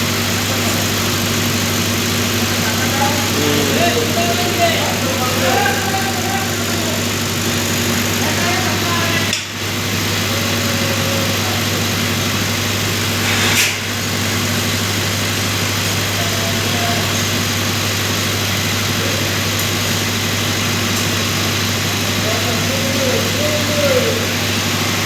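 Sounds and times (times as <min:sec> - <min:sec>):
distant voices: 0:00.0 - 0:25.0
machinery engine drone: 0:00.0 - 0:25.0.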